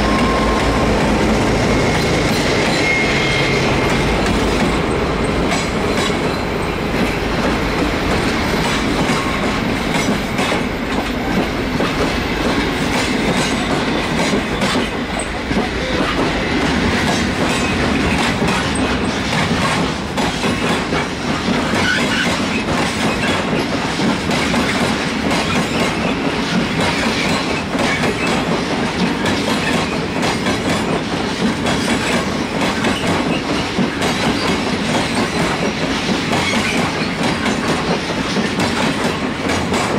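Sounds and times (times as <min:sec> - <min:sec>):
railway wagons rumbling past: 0:00.0 - 0:39.9.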